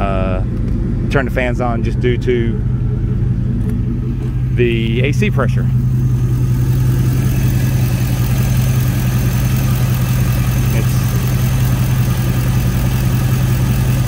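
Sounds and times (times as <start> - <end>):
engine idling with low hum: 0.0 - 14.0.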